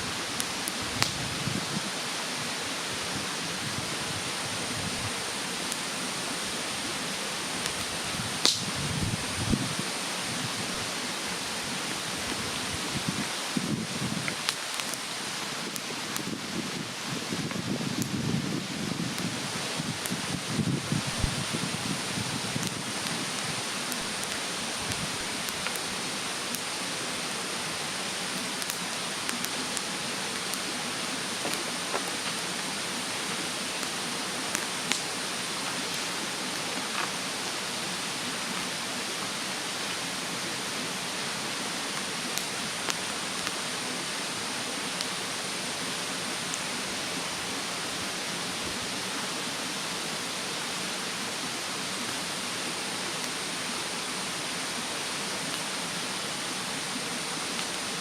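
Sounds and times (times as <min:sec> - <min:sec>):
mountain stream rushing: 0:00.0 - 0:58.0
bonfire crackling and popping: 0:00.2 - 0:40.0, 0:40.6 - 0:48.8, 0:54.4 - 0:58.0.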